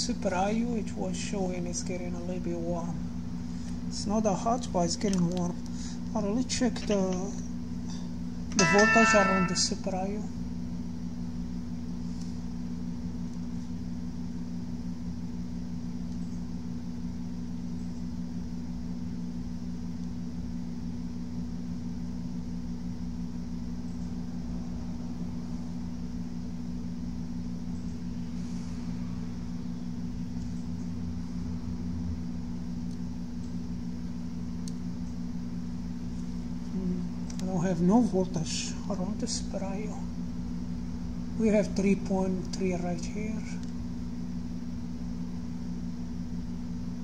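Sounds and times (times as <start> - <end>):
low hum of equipment: 0.0 - 47.0.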